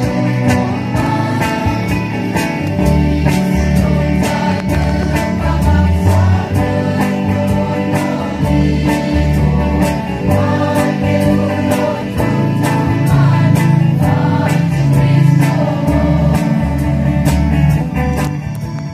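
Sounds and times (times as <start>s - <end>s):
women's choir singing a hymn: 0.0s - 17.2s
instrumental accompaniment with bass: 0.0s - 18.9s.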